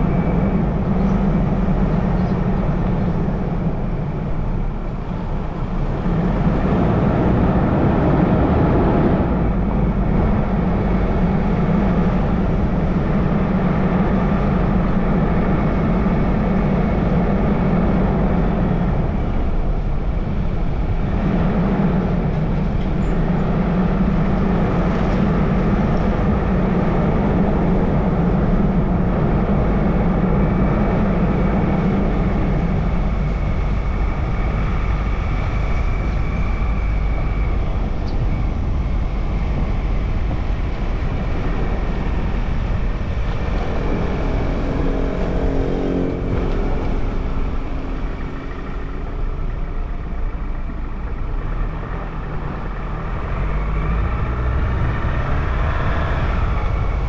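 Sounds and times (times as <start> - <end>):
car engine and road noise: 0.0 - 57.0
pitched drone: 0.0 - 57.0.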